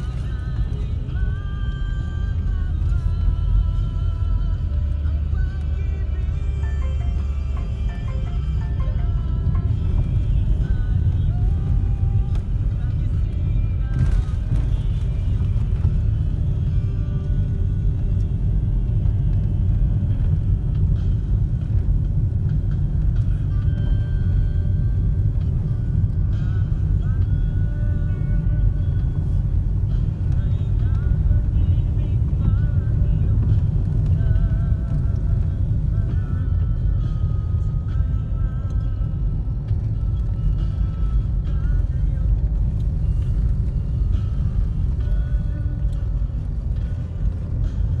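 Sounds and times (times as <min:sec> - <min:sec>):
car engine and road noise: 0:00.0 - 0:48.0
faint background music: 0:00.0 - 0:48.0.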